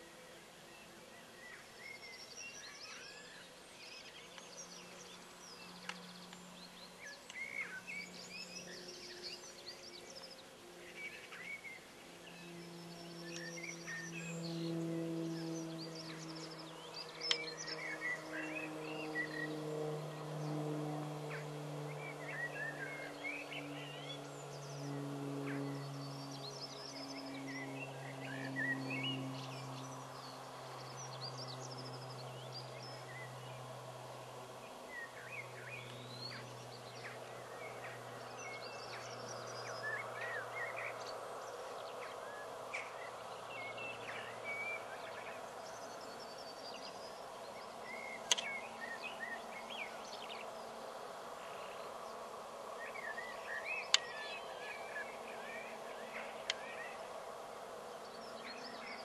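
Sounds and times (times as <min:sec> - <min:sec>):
small birds chirping: 0:00.0 - 0:59.0
steady background hum: 0:00.0 - 0:59.0.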